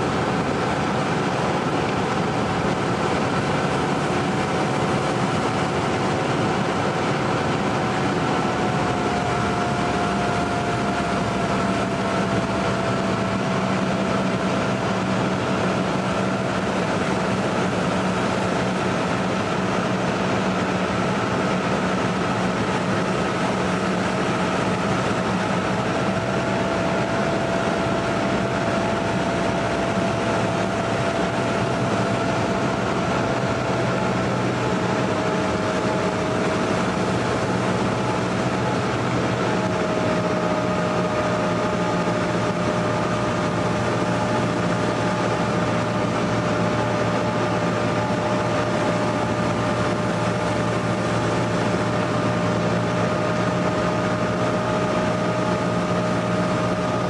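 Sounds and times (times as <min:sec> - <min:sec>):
aircraft engine and propeller droning: 0:00.0 - 0:57.0
thin steady whine: 0:00.0 - 0:57.0.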